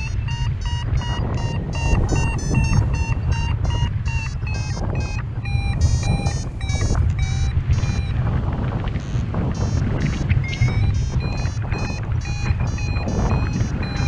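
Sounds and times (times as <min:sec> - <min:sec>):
variometer beeping rapidly: 0:00.0 - 0:14.0
wind rushing over microphone: 0:00.0 - 0:14.0.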